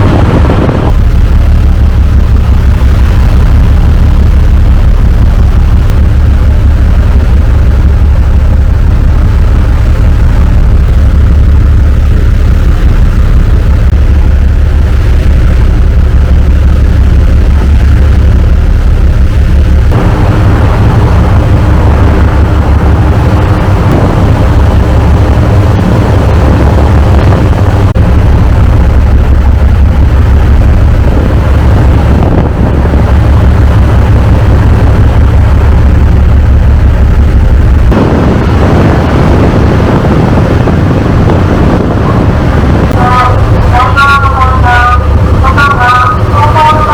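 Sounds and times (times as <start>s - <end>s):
broad rushing noise: 0.0s - 46.9s
ferry engines droning: 0.0s - 46.9s.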